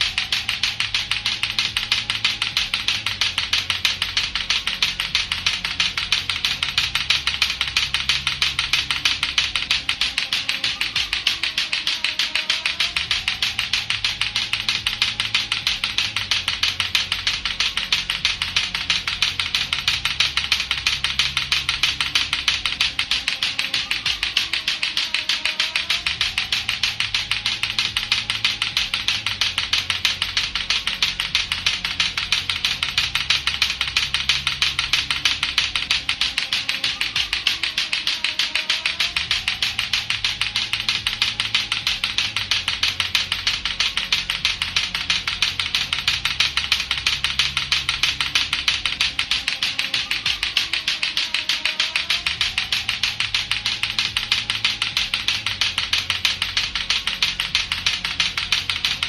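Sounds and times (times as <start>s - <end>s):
plastic clacker balls clacking: 0.0s - 59.0s.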